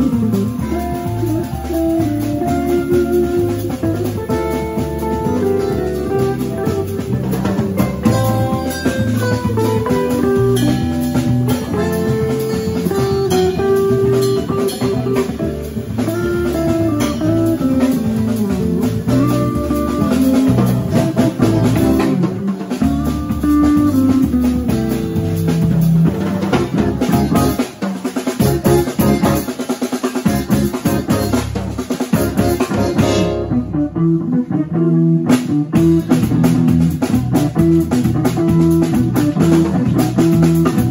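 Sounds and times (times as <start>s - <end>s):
live jazz band playing: 0.0s - 40.9s.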